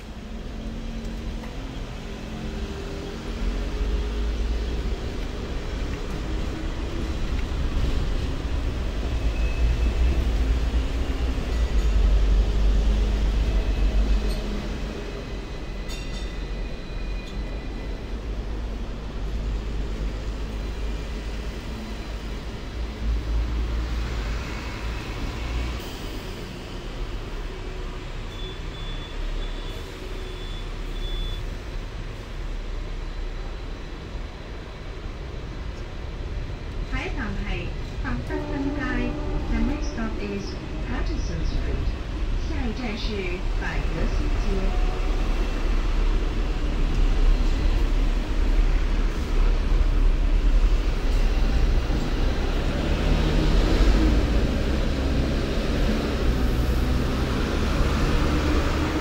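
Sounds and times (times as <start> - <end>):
tram wheels rumbling on rail: 0.0 - 59.0.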